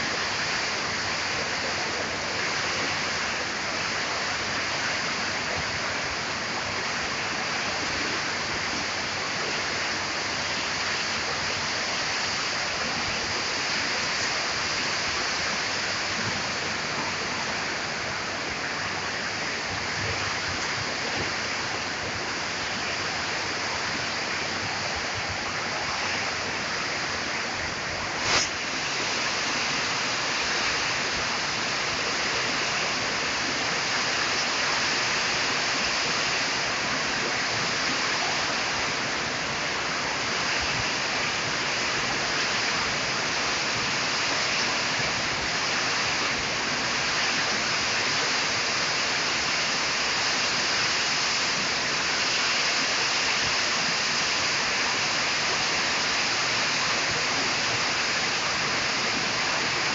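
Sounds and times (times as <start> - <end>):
heavy rain in strong wind: 0.0 - 59.9.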